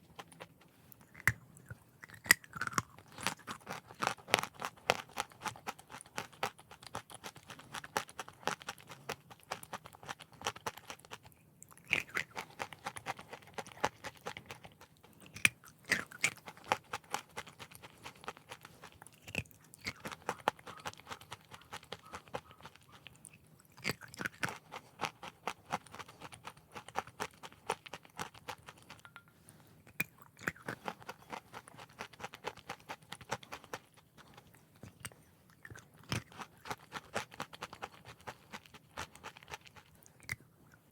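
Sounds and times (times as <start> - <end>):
crunching and chewing chalk: 0.0 - 40.9.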